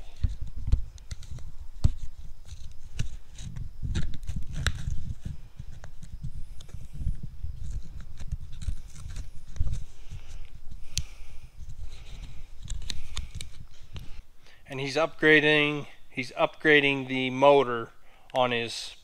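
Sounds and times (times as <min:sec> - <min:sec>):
phone microphone rubbing on clothing: 0:00.0 - 0:16.9.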